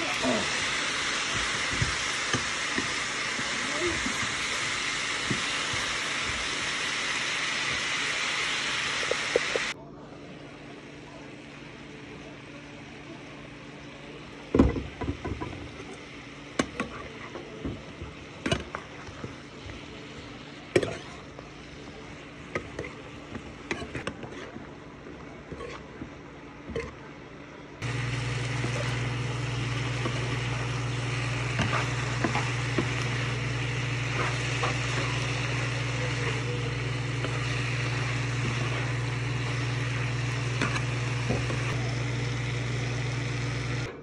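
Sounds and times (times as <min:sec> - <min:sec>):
vegetables cooking in a frying pan: 0:00.0 - 0:09.8, 0:10.8 - 0:24.5, 0:27.8 - 0:44.0.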